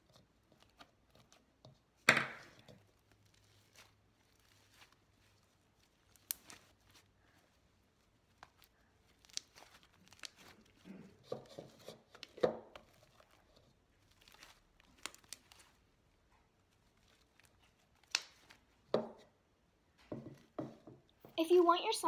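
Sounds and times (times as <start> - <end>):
hands squishing slime: 0.0 - 18.9.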